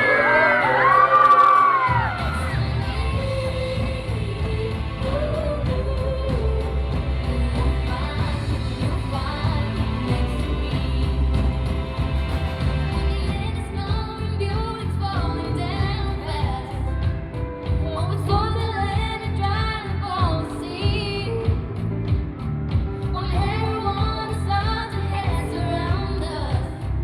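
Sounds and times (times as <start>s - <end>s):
woman singing: 0.0s - 12.1s, 12.8s - 22.2s, 23.0s - 27.0s
pop-rock band playing live: 0.0s - 27.0s.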